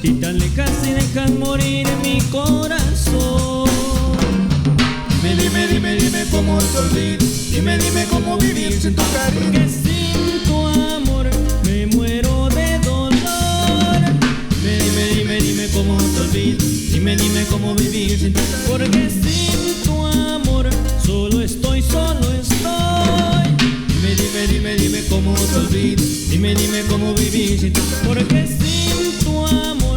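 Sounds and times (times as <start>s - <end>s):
band playing dance music: 0.0s - 29.9s
bass notes: 0.0s - 29.9s
drum kit beat: 0.0s - 29.9s.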